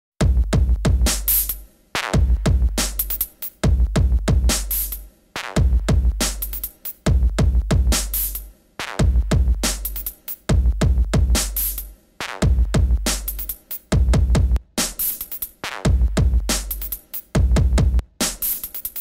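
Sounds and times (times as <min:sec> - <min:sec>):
drum-machine beat: 0:00.2 - 0:19.0.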